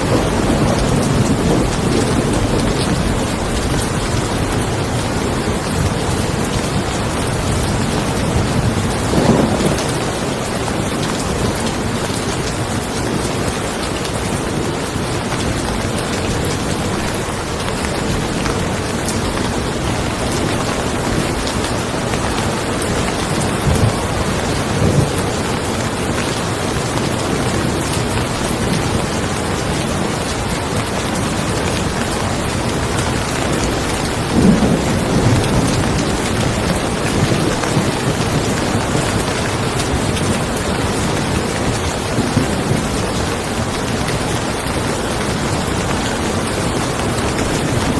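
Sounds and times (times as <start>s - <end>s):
low thunder rumble: 0.0s - 47.9s
rain falling on a car: 0.0s - 47.9s
raindrops ticking: 0.0s - 47.9s.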